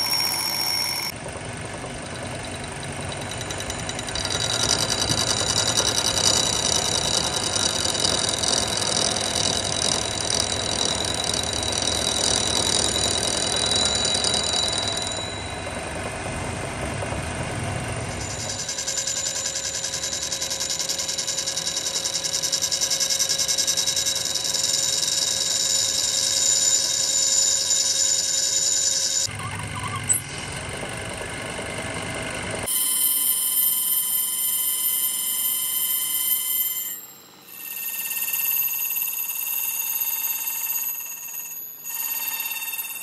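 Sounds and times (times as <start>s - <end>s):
lathe tool squealing on steel: 0.0s - 1.1s, 2.1s - 15.7s, 18.2s - 30.5s, 32.6s - 43.0s
lathe machine running: 0.0s - 40.4s.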